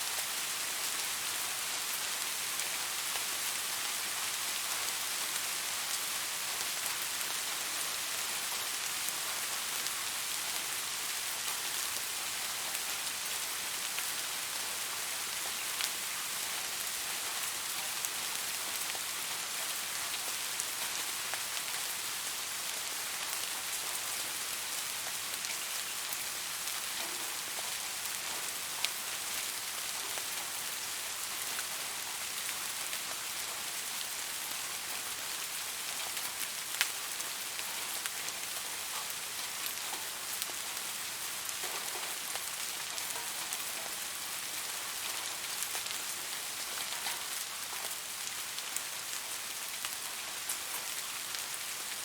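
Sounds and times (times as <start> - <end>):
rain hiss: 0.0 - 52.0.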